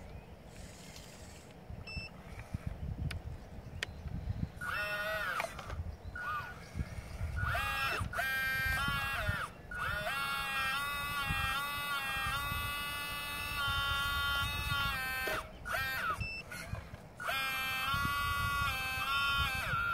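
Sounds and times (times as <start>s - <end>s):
model excavator motors whining: 0.0s - 19.9s.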